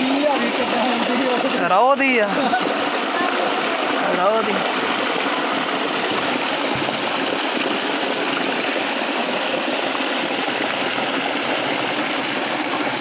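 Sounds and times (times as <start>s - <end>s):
water gushing into a drain: 0.0s - 13.0s.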